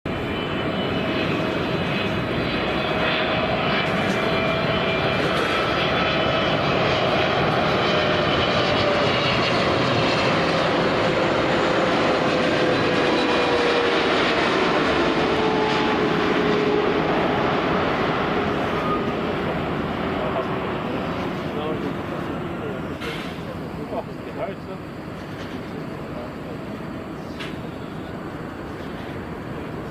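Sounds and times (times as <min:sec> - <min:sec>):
jet airliner roaring past: 0:00.1 - 0:29.9.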